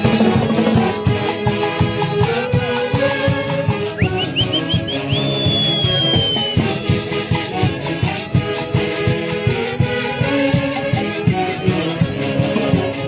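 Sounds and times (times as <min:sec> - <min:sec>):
steady percussion beat: 0:00.0 - 0:13.0
wind instruments playing melody: 0:00.0 - 0:13.0.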